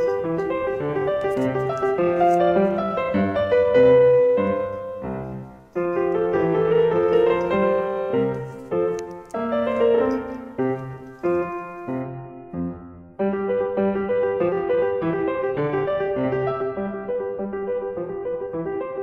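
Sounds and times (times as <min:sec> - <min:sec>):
gentle piano tune: 0:00.0 - 0:19.0.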